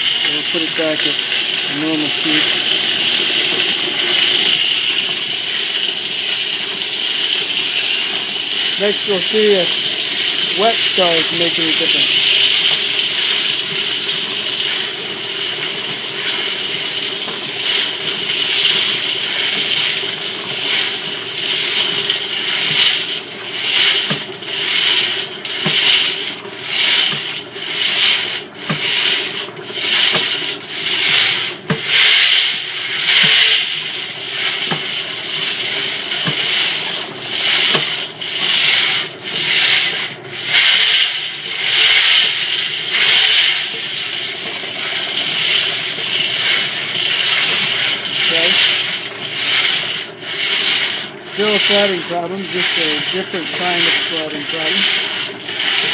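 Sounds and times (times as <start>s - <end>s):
stars scraping in rotating drum: 0.0s - 55.9s.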